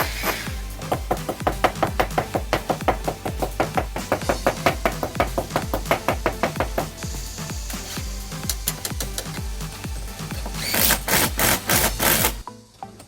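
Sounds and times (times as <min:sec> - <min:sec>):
background music with steady beat: 0:00.0 - 0:13.0
fast percussive taps: 0:00.8 - 0:12.4.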